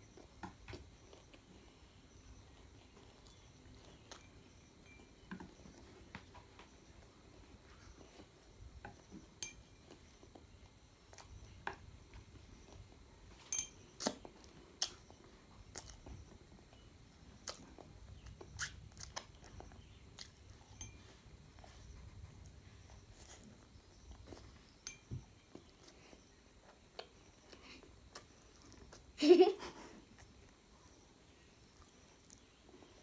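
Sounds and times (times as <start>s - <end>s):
child chewing and slurping: 0.0s - 33.0s.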